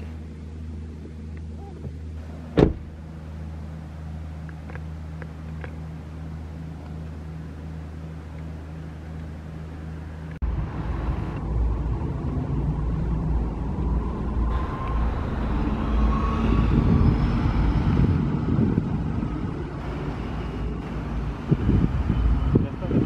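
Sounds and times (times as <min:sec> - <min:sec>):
bus engine rumble: 0:00.0 - 0:23.0
steady low hum: 0:00.0 - 0:23.0.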